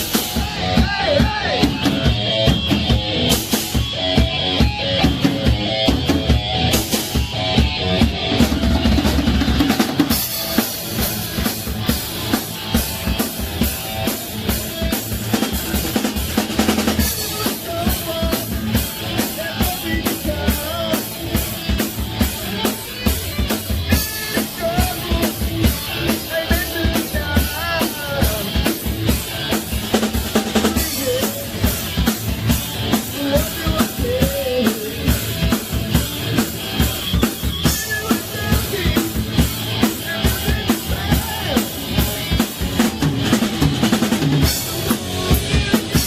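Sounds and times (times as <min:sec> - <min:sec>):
drum kit driving beat: 0:00.0 - 0:46.0
live heavy metal band: 0:00.0 - 0:46.0.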